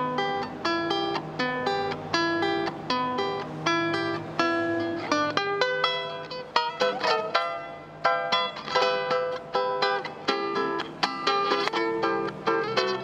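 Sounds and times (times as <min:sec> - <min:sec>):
small guitar strumming chords: 0:00.0 - 0:13.0.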